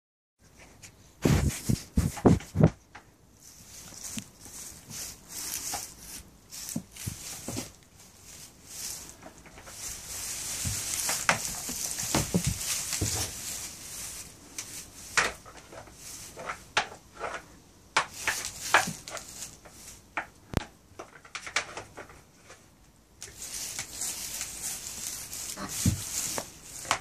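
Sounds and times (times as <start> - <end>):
rustling straw: 0.4 - 21.1, 21.7 - 27.0.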